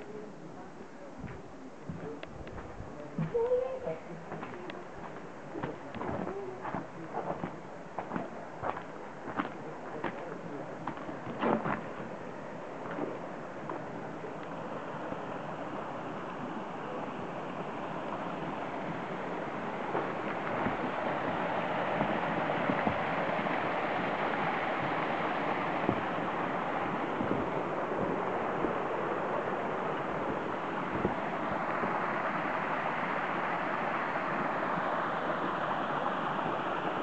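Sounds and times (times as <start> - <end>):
water rushing over a weir: 3.1 - 37.0.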